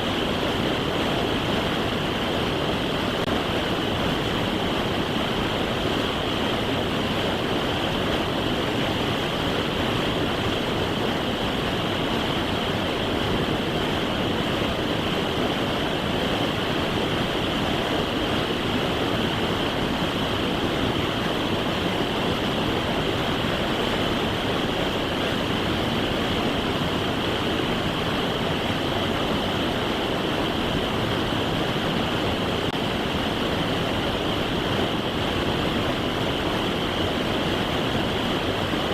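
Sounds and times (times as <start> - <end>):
fast-flowing creek water: 0.0 - 38.9.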